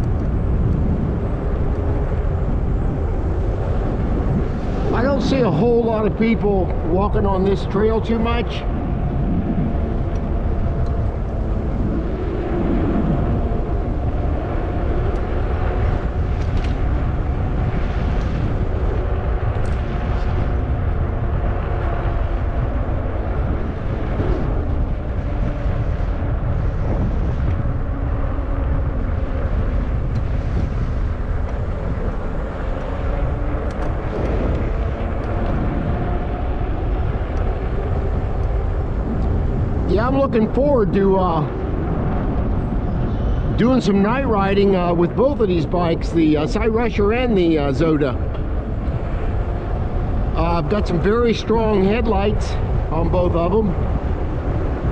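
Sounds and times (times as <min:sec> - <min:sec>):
electric bike motor whine: 0:00.0 - 0:06.6, 0:07.6 - 0:44.0, 0:47.7 - 0:54.9
wind rumbling on microphone: 0:00.0 - 0:54.9.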